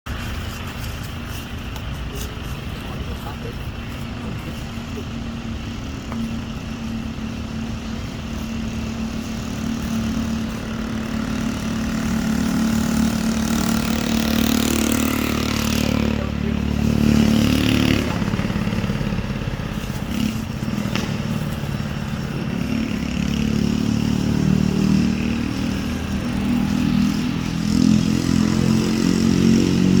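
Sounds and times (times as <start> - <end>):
engine running steadily: 0.1 - 30.0.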